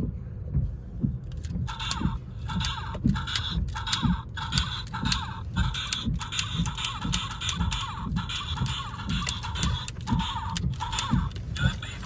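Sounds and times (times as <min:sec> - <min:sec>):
electronic music beat: 0:01.0 - 0:12.0.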